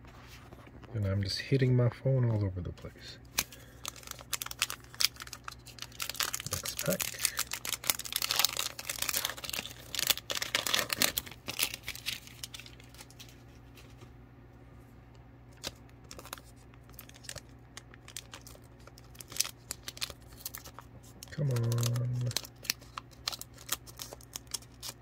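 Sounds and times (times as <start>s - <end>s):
foil wrapper crinkling and tearing: 3.3s - 13.9s, 15.5s - 25.0s.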